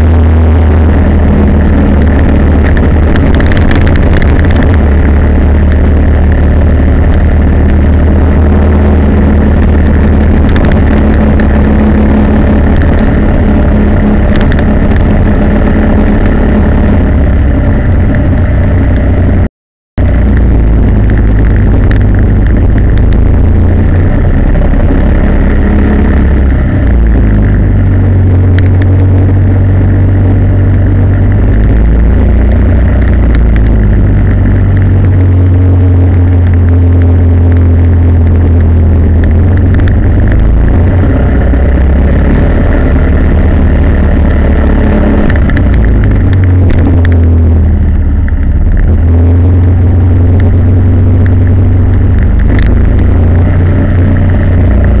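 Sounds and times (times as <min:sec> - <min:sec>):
road and wind noise: 0:00.0 - 0:55.0
vehicle engine drone: 0:00.0 - 0:55.0.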